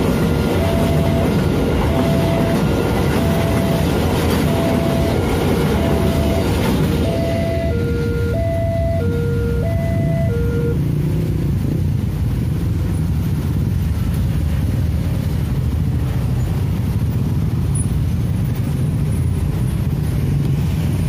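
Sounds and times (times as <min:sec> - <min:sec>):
motorcycle and scooter traffic drone: 0:00.0 - 0:21.0.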